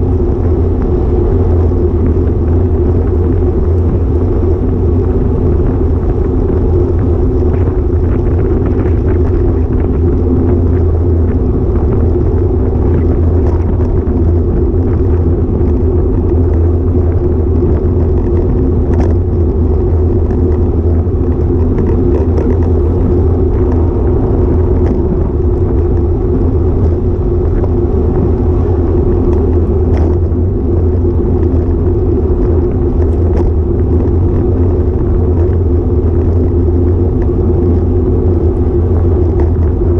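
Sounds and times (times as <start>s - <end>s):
road and tyre vibration: 0.0s - 39.9s
wind on microphone: 0.0s - 39.9s.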